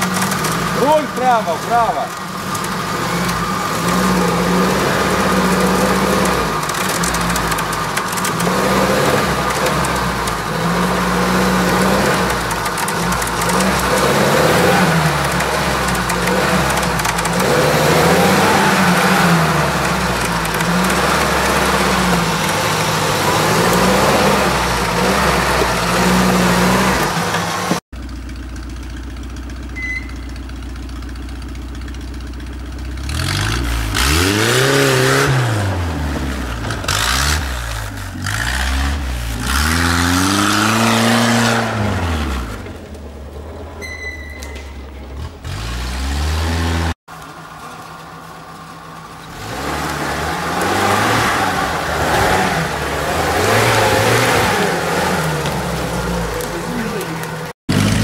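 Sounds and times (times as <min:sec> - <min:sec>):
off-road engine revving under load: 0:00.0 - 0:27.8, 0:32.2 - 0:47.0, 0:49.2 - 0:58.0
off-road engine running steadily: 0:00.0 - 0:58.0.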